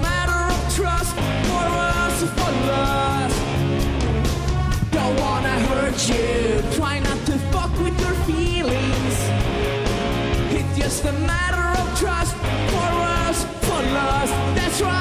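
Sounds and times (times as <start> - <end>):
person singing into a microphone: 0.0 - 3.4, 4.8 - 9.3, 10.5 - 15.0
live rock band playing: 0.0 - 15.0.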